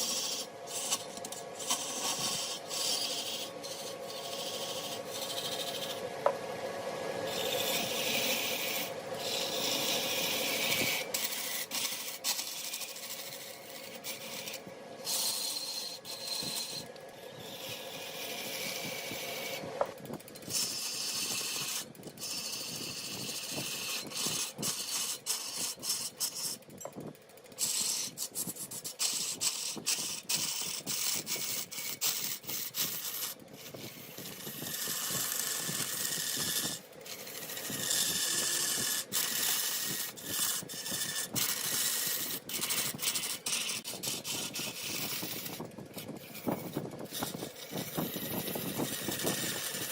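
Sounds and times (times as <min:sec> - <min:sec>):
lathe tool scraping wood: 0:00.0 - 0:49.9.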